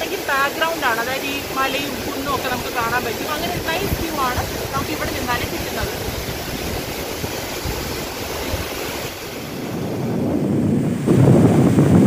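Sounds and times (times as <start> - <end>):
waterfall rushing: 0.0 - 12.0
wind buffeting microphone: 0.0 - 12.0.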